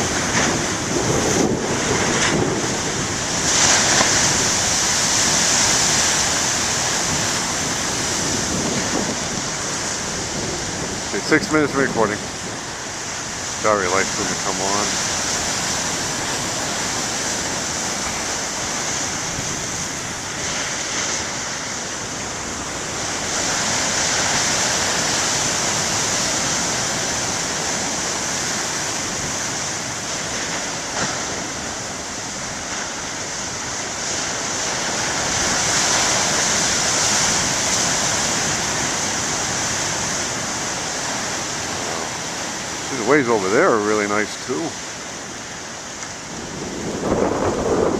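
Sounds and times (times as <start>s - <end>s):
ocean waves breaking on beach: 0.0s - 47.9s.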